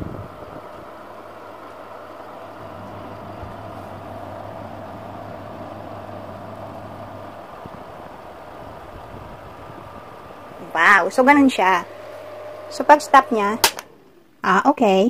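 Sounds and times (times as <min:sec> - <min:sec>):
low hum: 0:00.0 - 0:14.6
tower fan whirring: 0:00.0 - 0:15.0.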